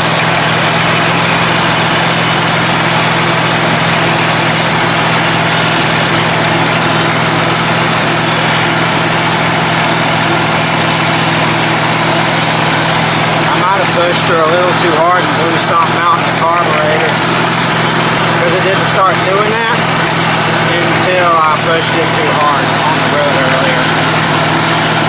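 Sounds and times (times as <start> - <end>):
riding mower engine running: 0.0 - 25.0.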